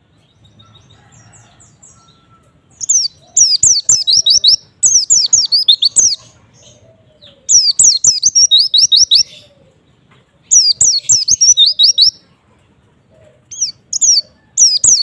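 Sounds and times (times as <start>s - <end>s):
bird singing high chirps: 0.2s - 9.5s, 10.5s - 12.2s, 13.5s - 15.0s.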